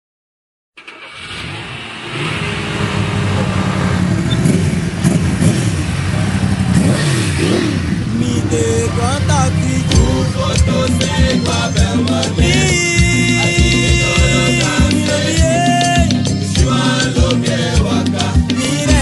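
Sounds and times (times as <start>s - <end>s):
motorcycle engine revving: 1.0s - 19.0s.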